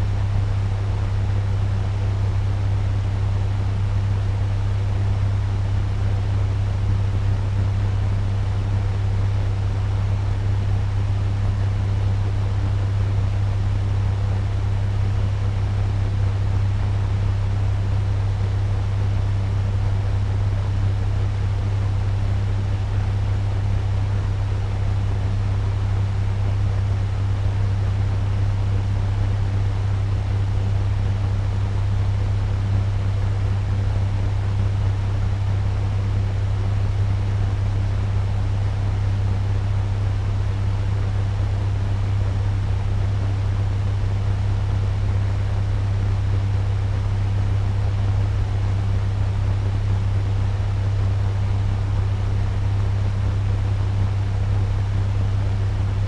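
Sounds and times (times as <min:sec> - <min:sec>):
fan running: 0:00.0 - 0:56.0.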